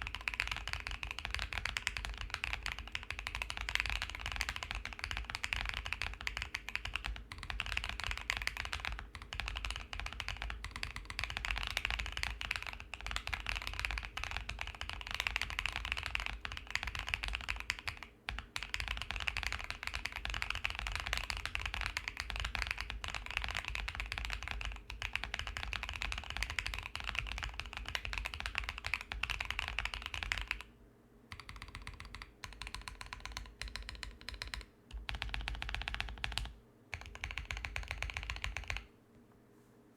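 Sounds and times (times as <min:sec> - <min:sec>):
mechanical keyboard typing: 0:00.0 - 0:30.7, 0:31.3 - 0:38.9.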